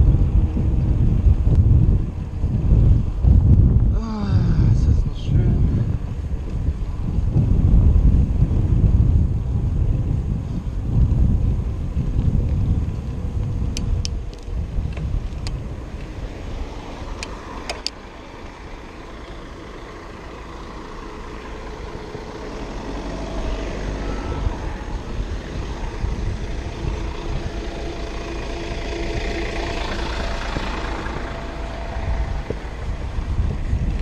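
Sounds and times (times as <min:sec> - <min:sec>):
low wind rumble on microphone: 0:00.0 - 0:34.0
motor vehicle: 0:00.0 - 0:34.0.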